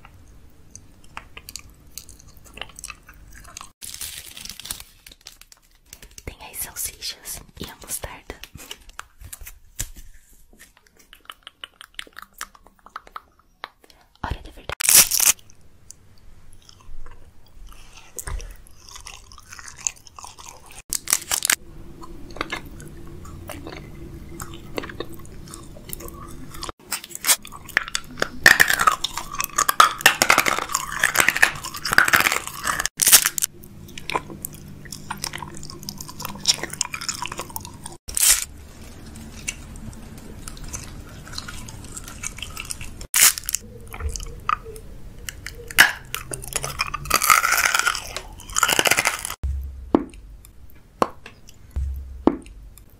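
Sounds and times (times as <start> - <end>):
chewing hard candy: 0.0 - 4.0, 10.8 - 49.5.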